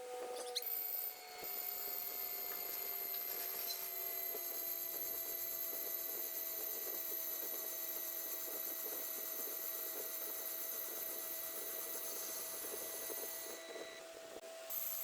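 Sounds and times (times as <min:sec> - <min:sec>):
lathe high-pitched whine: 0:00.0 - 0:15.0.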